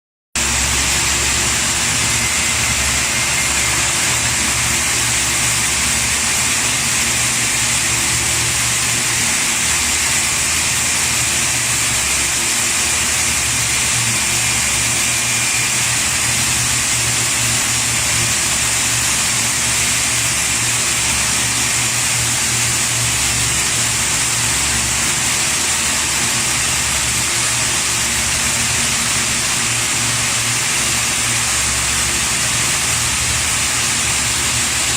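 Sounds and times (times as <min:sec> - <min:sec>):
industrial machine noise: 0:00.4 - 0:34.9.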